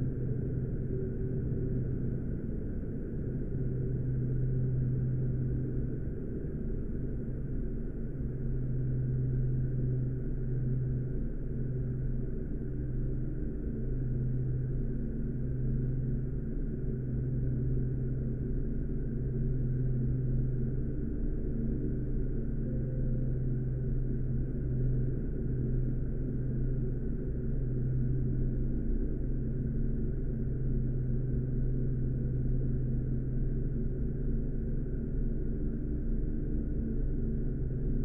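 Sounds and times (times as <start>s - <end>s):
low humming drone: 0.0s - 38.0s.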